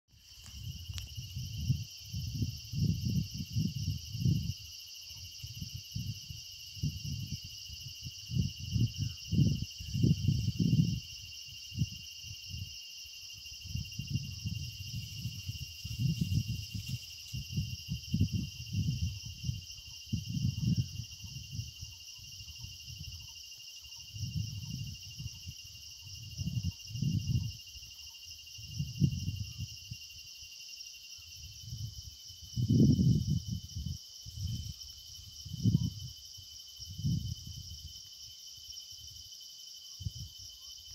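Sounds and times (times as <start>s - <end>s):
insect chorus: 0.1s - 40.9s.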